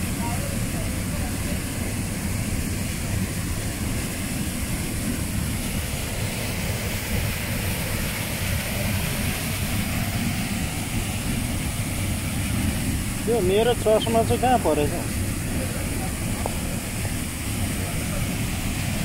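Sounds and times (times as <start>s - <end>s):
waterfall roaring into pool: 0.0s - 19.0s.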